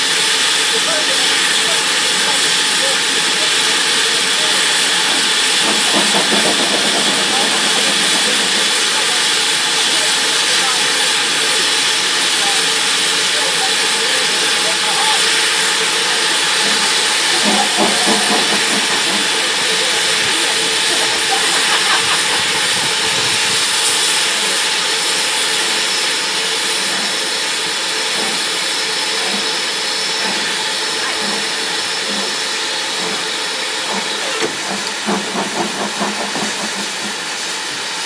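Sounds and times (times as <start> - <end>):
steam hissing loudly: 0.0 - 38.0
steam locomotive moving off: 0.0 - 38.0.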